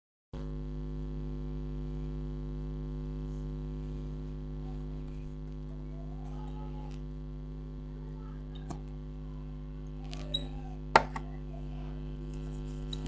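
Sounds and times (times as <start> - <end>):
electrical mains hum: 0.4 - 13.0.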